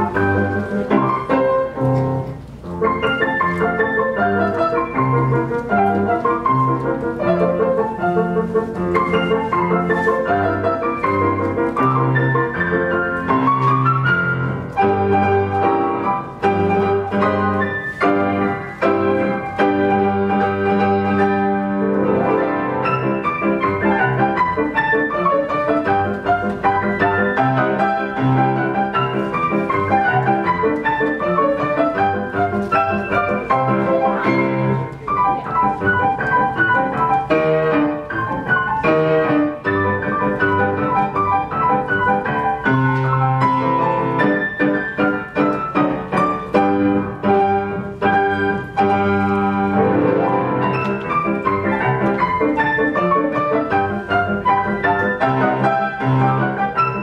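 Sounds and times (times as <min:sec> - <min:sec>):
grand piano accompaniment: 0:00.0 - 0:57.0.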